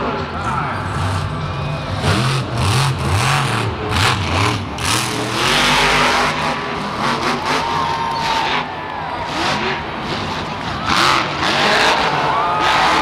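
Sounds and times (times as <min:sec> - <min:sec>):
truck engine revving: 0:00.3 - 0:13.0.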